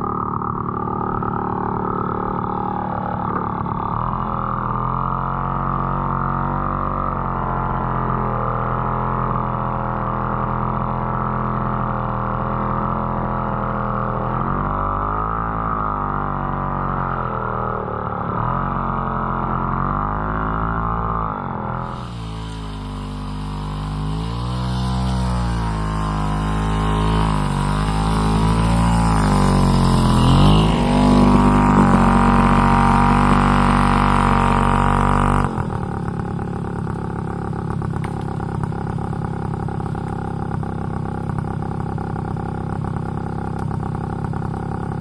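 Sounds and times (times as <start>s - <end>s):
moped engine droning: 0.0s - 45.0s.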